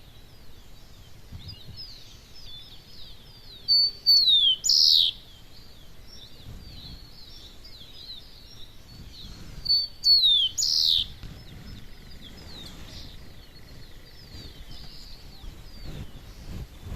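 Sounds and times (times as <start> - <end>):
birds chirping in dawn chorus: 0.0 - 16.9
loud bird song with buzzy note: 0.0 - 16.9.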